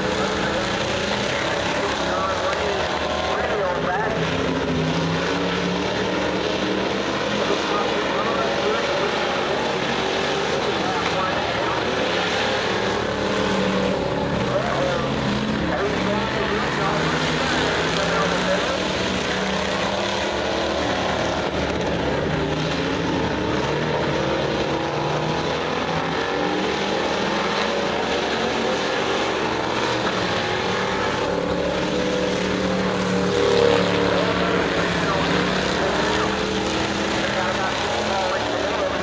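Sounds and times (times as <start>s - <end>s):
stock car engines racing: 0.0s - 39.0s.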